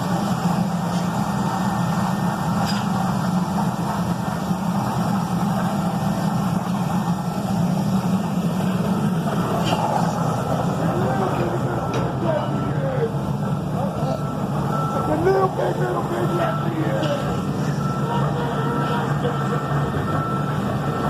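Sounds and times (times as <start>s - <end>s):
forklift engine idling: 0.0s - 21.0s.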